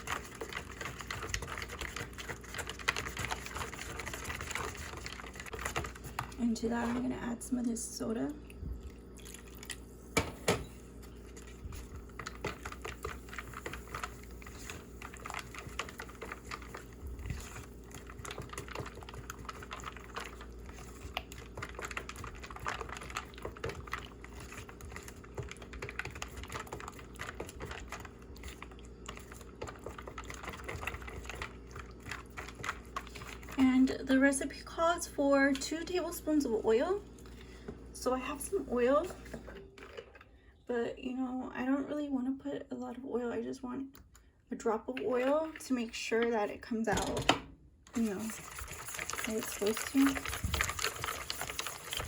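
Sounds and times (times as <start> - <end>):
batter stirred in a bowl: 0.0 - 40.3, 44.6 - 47.2, 47.9 - 52.0.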